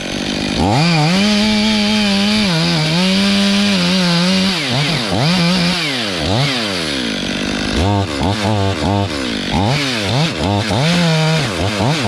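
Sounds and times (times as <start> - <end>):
chainsaw cutting through a trunk: 0.0 - 12.0.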